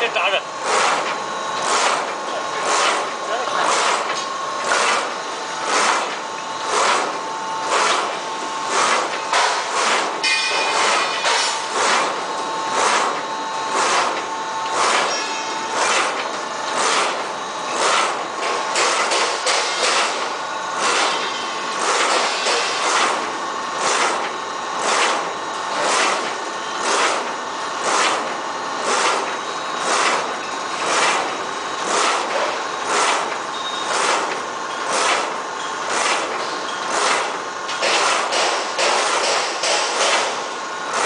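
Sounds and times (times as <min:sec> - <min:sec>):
machine hum: 0:00.0 - 0:41.0
die-cutting machine sharp stroke: 0:00.6 - 0:41.0.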